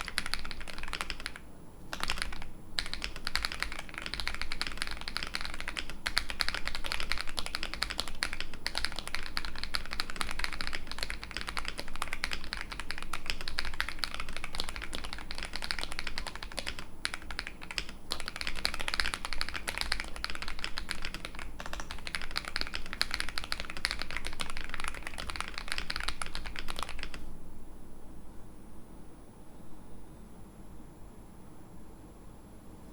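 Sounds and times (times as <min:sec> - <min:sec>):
fast typing on mechanical keyboard: 0:00.0 - 0:27.2.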